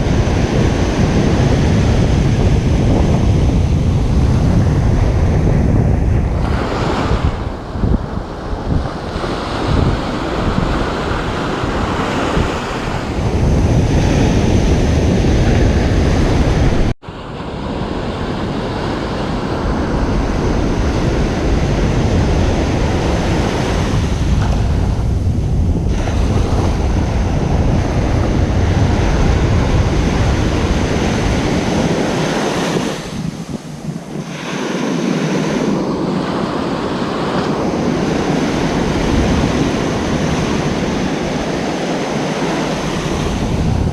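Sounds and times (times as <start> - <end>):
ocean surf washing onto beach: 0.0 - 43.9
wind buffeting microphone: 0.0 - 43.9.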